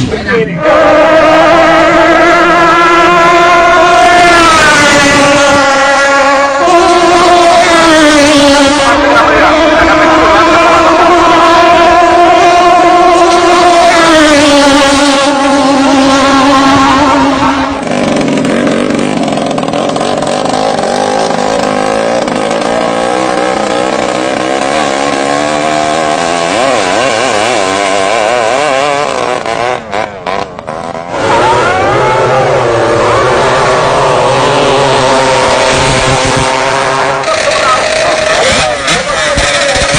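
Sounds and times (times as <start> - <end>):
racing boat engine revving hard: 0.0 - 39.9.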